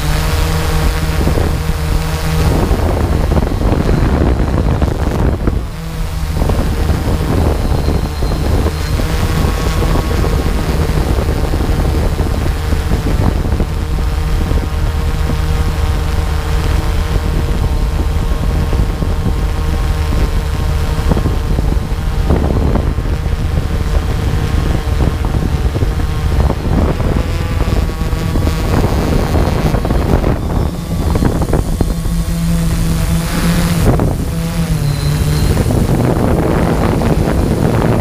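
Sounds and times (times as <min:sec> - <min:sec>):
drone rotors humming: 0:00.0 - 0:38.0
wind buffeting microphone: 0:00.0 - 0:38.0.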